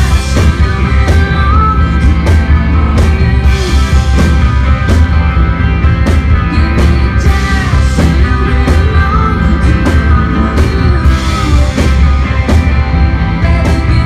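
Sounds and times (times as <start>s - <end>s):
drums steady beat: 0.0s - 14.0s
live rock band playing: 0.0s - 14.0s.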